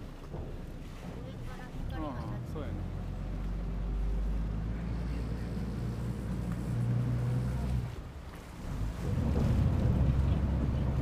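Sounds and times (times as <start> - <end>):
boat engine low hum: 0.0 - 11.0.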